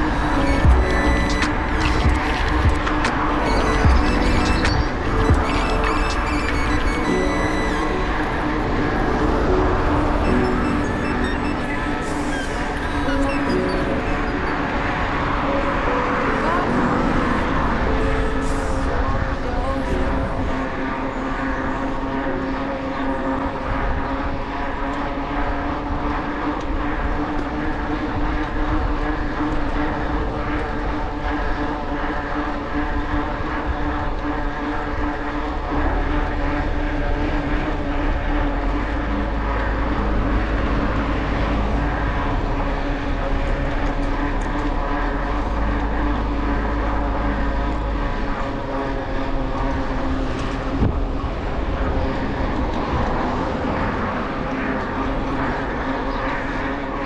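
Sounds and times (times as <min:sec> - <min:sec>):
bicycle droning hum: 0:00.0 - 0:57.0
wind rumble on microphone: 0:00.0 - 0:57.0.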